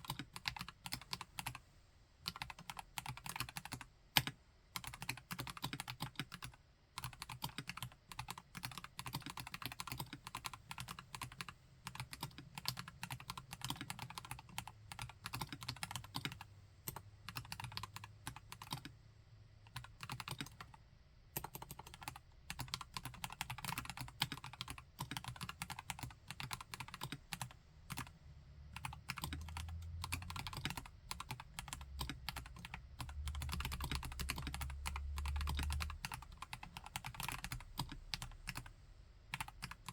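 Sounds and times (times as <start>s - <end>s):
typing on mechanical keyboard: 0.0s - 1.6s, 2.2s - 19.0s, 19.7s - 20.8s, 21.4s - 28.1s, 28.7s - 38.7s, 39.3s - 39.9s.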